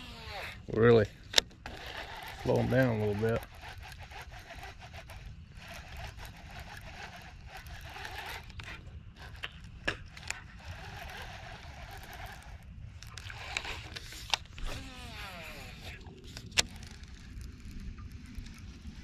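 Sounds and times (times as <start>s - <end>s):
fishing reel cranking: 0.0s - 19.0s.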